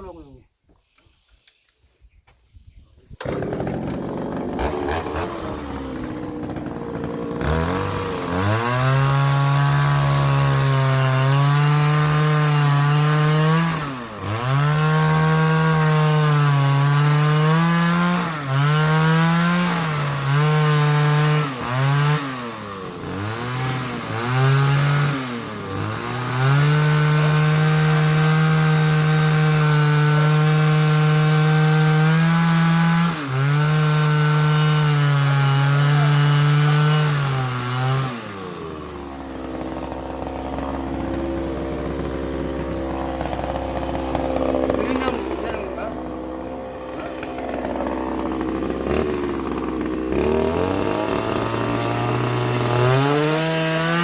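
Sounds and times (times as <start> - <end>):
chainsaw cutting wood: 3.2 - 54.0.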